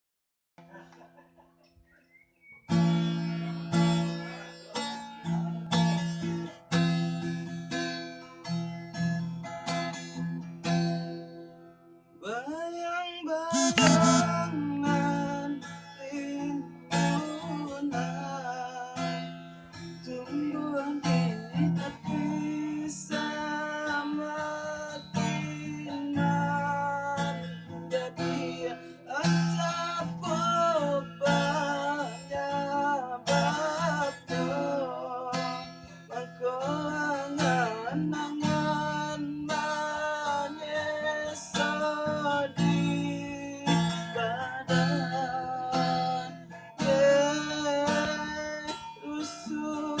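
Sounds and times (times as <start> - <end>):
acoustic guitar music: 2.4 - 50.0.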